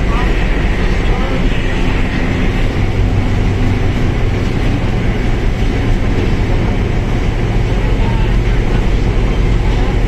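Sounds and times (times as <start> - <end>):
bus engine drone: 0.0 - 10.0
road and drivetrain noise: 0.0 - 10.0.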